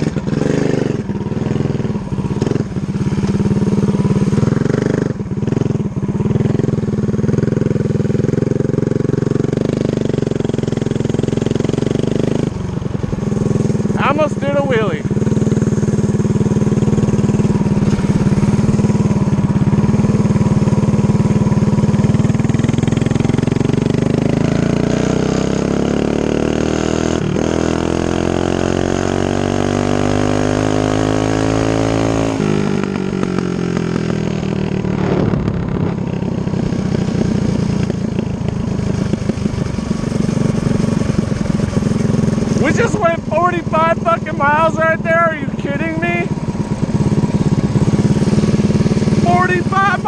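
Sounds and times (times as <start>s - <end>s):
mini bike engine revving: 0.0s - 50.0s.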